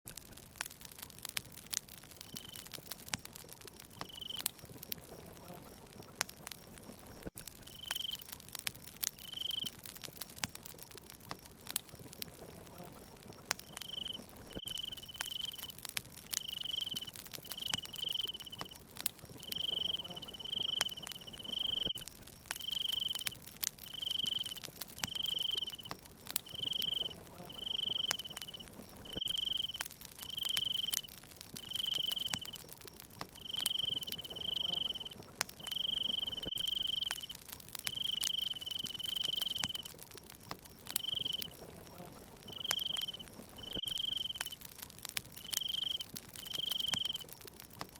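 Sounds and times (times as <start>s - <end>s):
wood fire crackling: 0.1s - 47.9s
cricket chirping: 2.2s - 2.7s, 3.7s - 47.9s.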